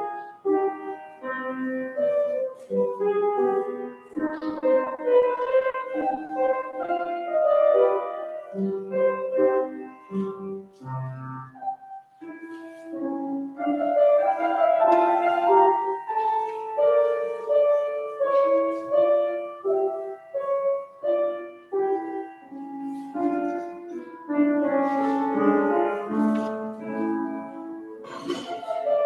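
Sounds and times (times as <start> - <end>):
keyboard instrument melody: 0.0 - 29.0.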